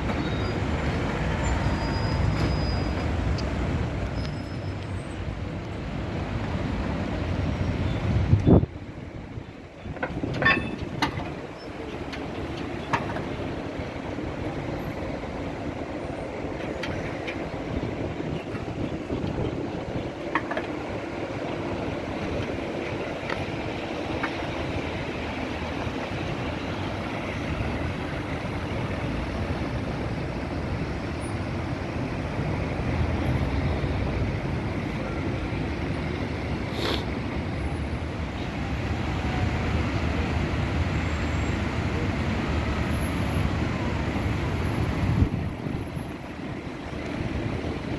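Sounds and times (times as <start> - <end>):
street traffic: 0.0 - 47.9
tram rolling on rails: 0.0 - 47.9.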